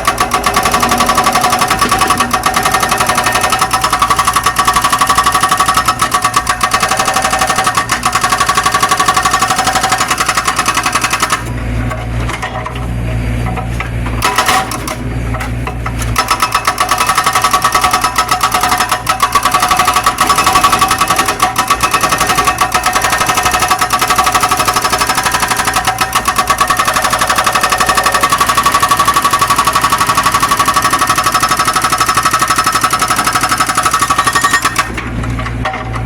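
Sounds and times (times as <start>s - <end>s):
excavator engine running: 0.0s - 36.0s
hydraulic breaker hammer pounding: 0.0s - 36.0s.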